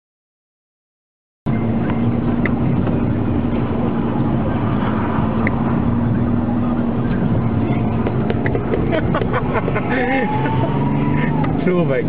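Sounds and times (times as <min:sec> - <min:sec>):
car engine and road drone: 0:01.5 - 0:12.0.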